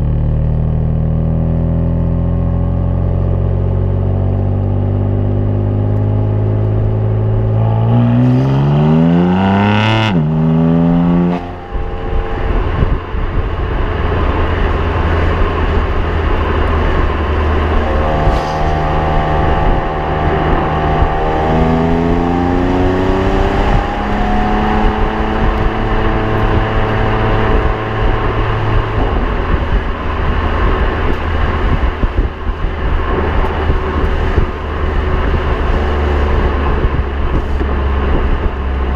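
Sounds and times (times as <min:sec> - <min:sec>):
car engine accelerating hard: 0:00.0 - 0:38.9
road and wind noise: 0:00.0 - 0:38.9.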